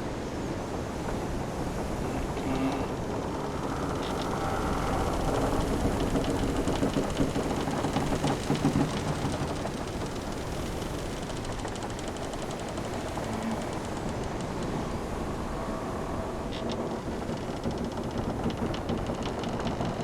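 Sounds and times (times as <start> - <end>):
waves washing: 0.0 - 19.8
wind: 0.0 - 20.0
wooden hull and rigging creaking: 0.0 - 20.0.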